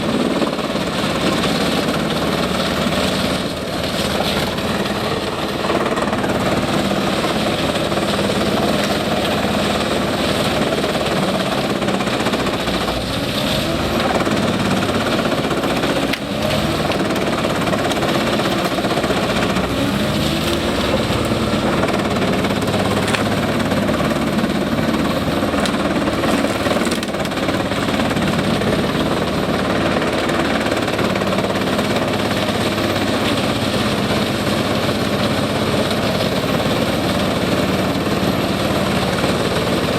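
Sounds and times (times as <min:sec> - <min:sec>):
diesel engine drone: 0:00.0 - 0:39.9
wood chipper chipping wood: 0:00.0 - 0:39.9.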